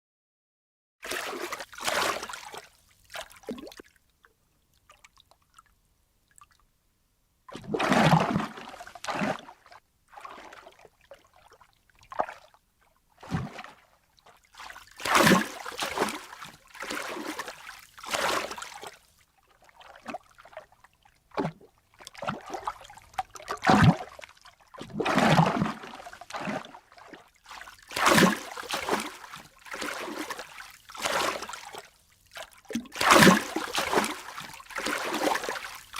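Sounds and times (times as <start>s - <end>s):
water splashing and sloshing: 1.0s - 6.7s, 7.5s - 35.9s.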